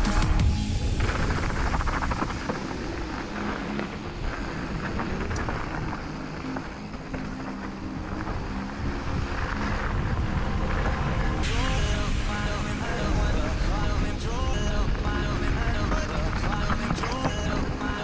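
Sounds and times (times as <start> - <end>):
wind rushing over microphone: 0.0 - 18.0
bike tyres rattling on gravel: 0.6 - 18.0.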